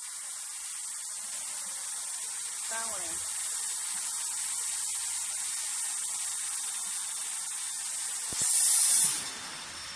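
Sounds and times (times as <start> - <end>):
hiss of air: 0.0 - 9.9.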